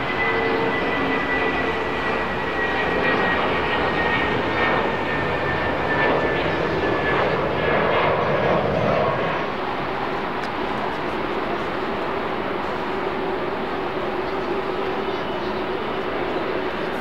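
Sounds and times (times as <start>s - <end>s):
jet engine roar with whine: 0.0s - 17.0s.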